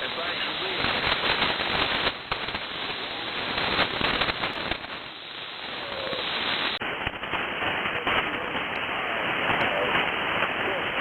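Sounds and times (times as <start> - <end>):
radio receiver hiss: 0.0 - 11.0
static crashes and crackles: 0.0 - 11.0.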